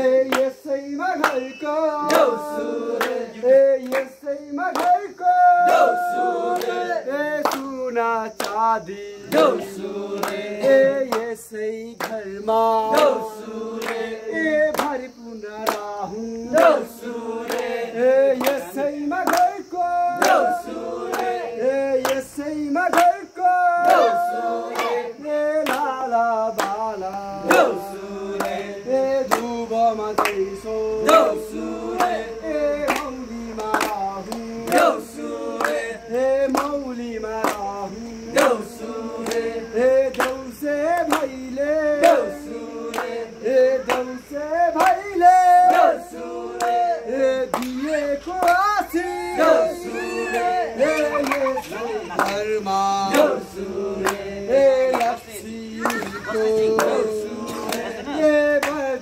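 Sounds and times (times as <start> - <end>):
group of men singing: 0.0 - 59.0
hand claps: 0.2 - 7.8, 8.4 - 8.6, 9.3 - 12.3, 12.9 - 16.0, 16.6 - 21.4, 22.0 - 25.0, 25.6 - 29.6, 30.2 - 32.2, 32.8 - 46.9, 47.5 - 48.8, 49.4 - 59.0.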